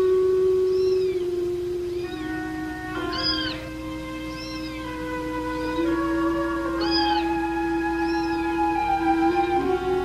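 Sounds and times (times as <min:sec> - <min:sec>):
background music long notes: 0:00.0 - 0:10.0.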